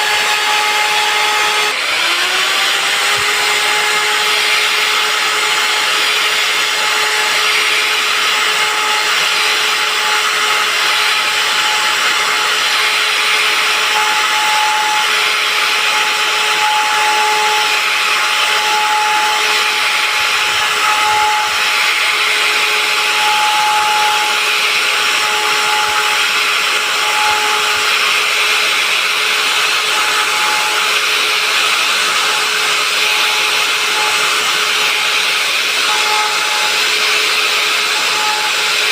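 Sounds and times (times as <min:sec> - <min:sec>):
router whining: 0:00.0 - 0:38.9.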